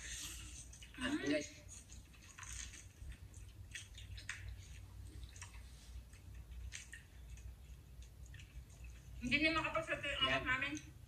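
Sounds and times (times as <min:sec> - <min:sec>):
low steady hum: 0:00.0 - 0:11.0
people chewing crispy food: 0:00.0 - 0:11.0.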